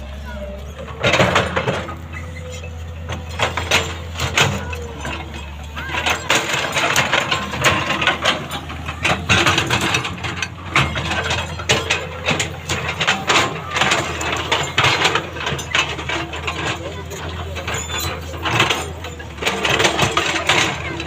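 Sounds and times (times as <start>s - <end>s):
diesel engine running: 0.0s - 21.0s
machine clanking and scraping: 0.0s - 21.0s.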